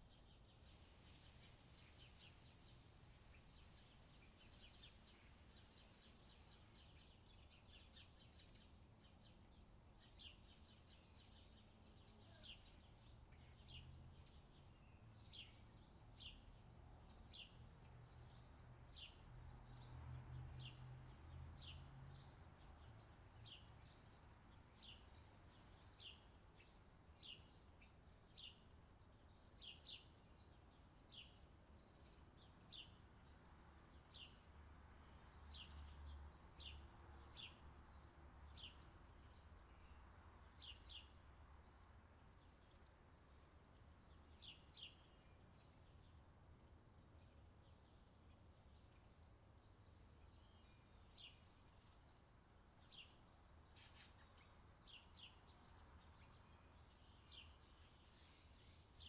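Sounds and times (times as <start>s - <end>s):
songbird chirping: 0.0s - 59.0s.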